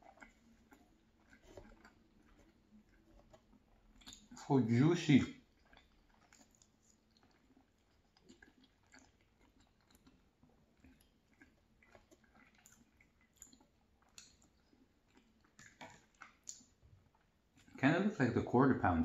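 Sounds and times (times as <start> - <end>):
wet mouth clicks: 0.0 - 4.5, 5.2 - 17.9
person chewing food: 0.0 - 17.8.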